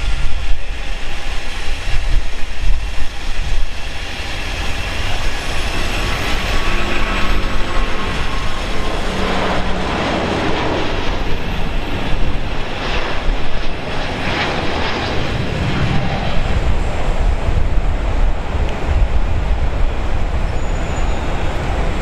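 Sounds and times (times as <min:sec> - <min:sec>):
deep rumble: 0:00.0 - 0:22.0
jet engines at takeoff: 0:00.0 - 0:22.0.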